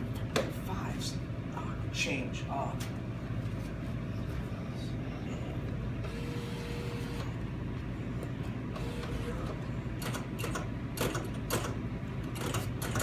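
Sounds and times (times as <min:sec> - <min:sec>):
vending machine hum: 0:00.0 - 0:13.0.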